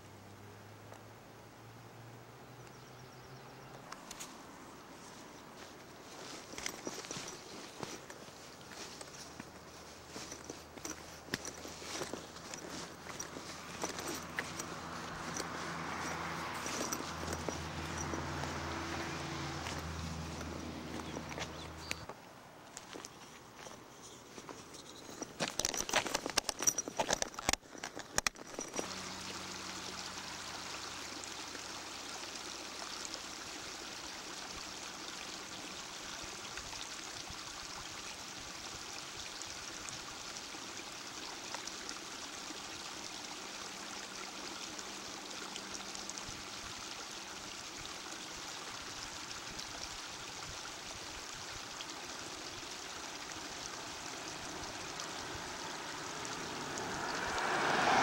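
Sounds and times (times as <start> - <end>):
stream rushing: 3.8 - 23.8, 24.4 - 58.0.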